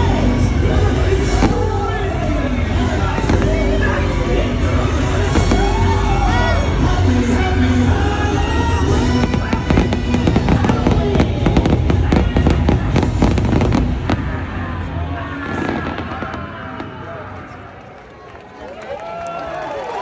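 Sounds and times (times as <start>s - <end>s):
loud show music: 0.0s - 16.3s
fireworks bangs and crackles: 0.0s - 18.0s.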